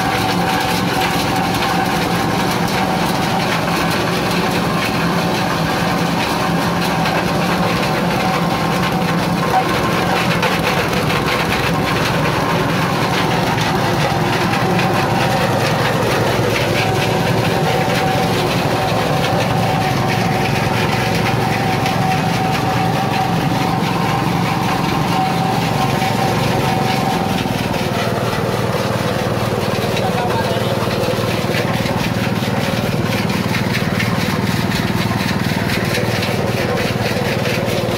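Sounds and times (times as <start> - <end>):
husk being shredded: 0.0 - 37.9
shredding machine engine running: 0.0 - 37.9.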